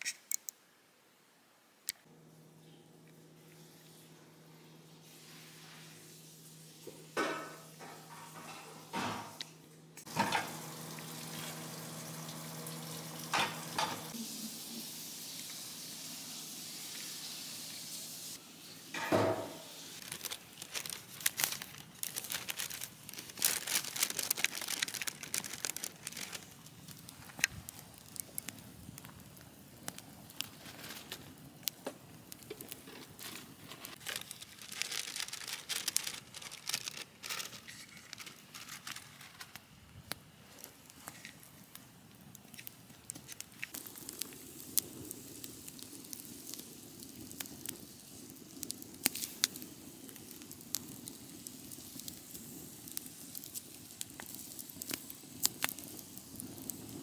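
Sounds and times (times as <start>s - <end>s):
food frying with crackles: 2.0s - 57.0s.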